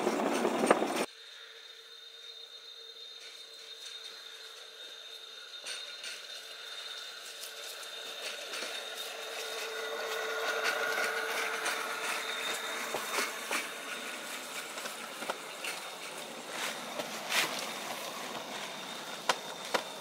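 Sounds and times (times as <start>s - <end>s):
wheels rolling on rails: 0.0s - 1.1s, 3.2s - 20.0s
electric motor whine: 0.0s - 20.0s.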